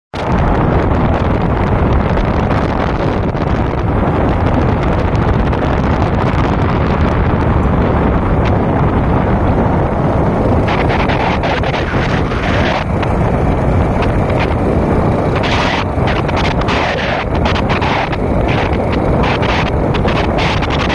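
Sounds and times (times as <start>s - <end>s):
wind rushing over microphone: 0.1s - 20.9s
road and vehicle noise: 0.2s - 20.9s.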